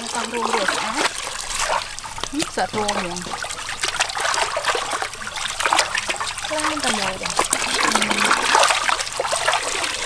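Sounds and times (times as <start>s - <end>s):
hands sloshing pork skin in water: 0.0s - 10.0s
small splashes: 0.0s - 10.0s
tap water pouring into basin: 0.0s - 10.0s.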